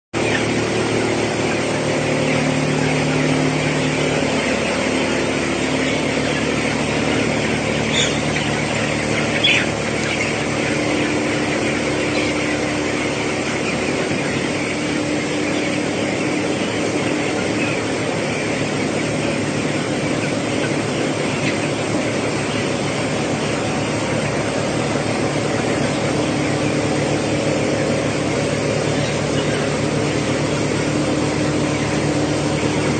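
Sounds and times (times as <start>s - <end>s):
sharper chick calls: 0.2s - 32.8s
chicks peeping: 0.2s - 32.9s
ventilation fans humming: 0.2s - 32.9s.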